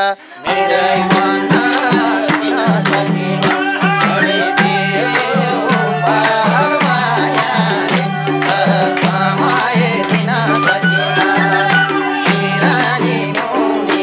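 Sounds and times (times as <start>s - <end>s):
bright high percussion strikes: 0.0s - 14.0s
hand drum beat: 0.0s - 14.0s.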